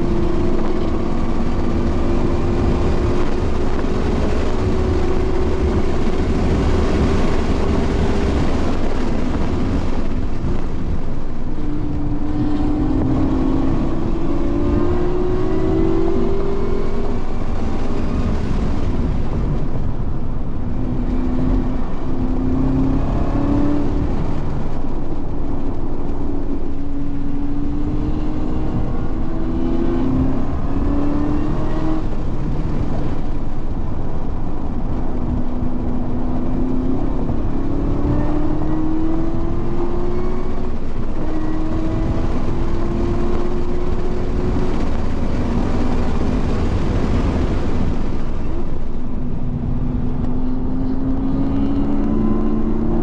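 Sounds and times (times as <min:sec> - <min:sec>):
racing car engine: 0:00.0 - 0:53.0
road and wind noise: 0:00.0 - 0:53.0.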